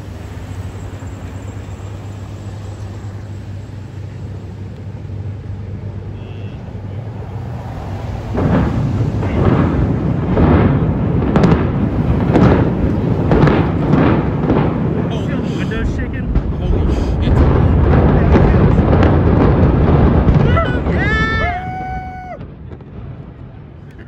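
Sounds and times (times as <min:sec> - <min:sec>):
demolition charges booming: 0:00.0 - 0:23.8.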